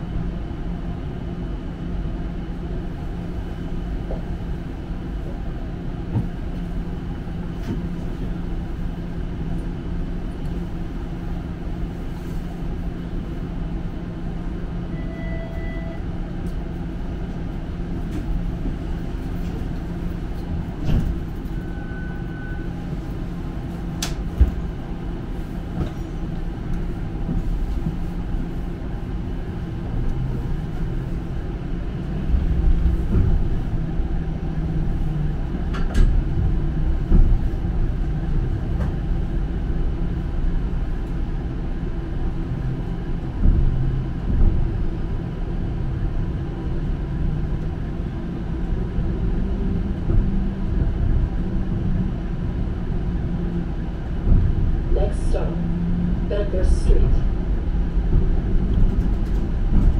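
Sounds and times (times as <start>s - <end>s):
streetcar rumbling on rails: 0.0s - 59.9s.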